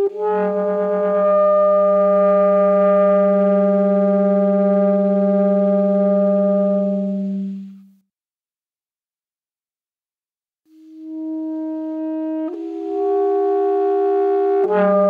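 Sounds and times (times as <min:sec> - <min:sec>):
alto saxophone long low note: 0:00.0 - 0:08.0, 0:10.8 - 0:15.0.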